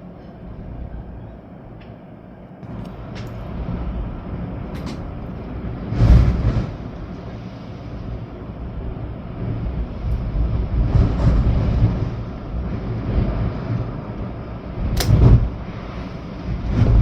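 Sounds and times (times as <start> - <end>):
storm wind buffeting microphone: 0.1 - 17.0.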